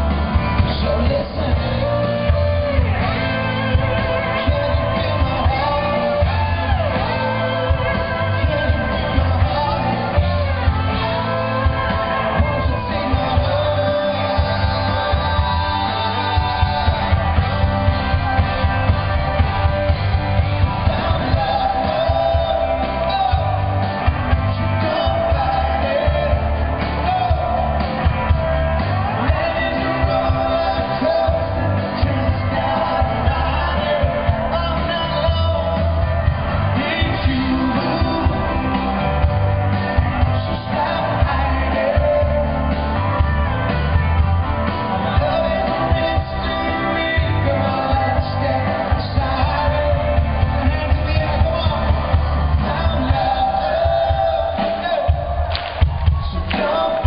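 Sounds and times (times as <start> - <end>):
keyboards: 0.0 - 57.0
man singing: 0.0 - 57.0
steady drum beat: 0.0 - 57.0.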